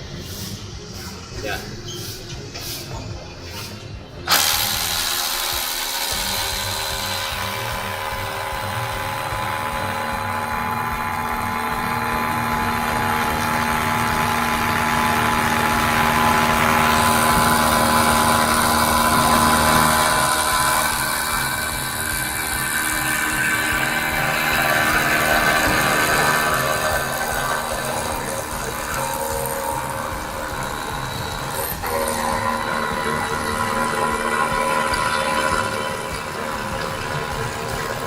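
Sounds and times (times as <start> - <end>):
rotary hammer drill running: 4.2 - 38.0.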